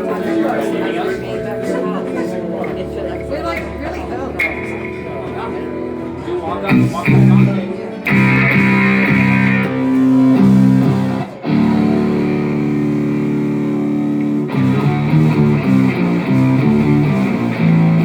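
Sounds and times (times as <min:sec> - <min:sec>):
electric guitar through amplifier: 0:00.0 - 0:18.0.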